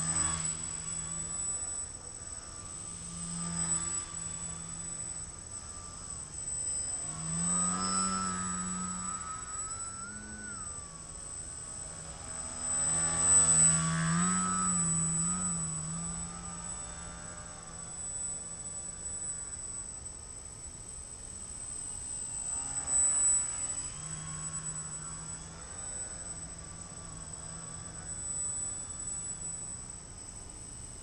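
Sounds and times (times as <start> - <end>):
model plane motor buzzing: 0.0 - 31.0.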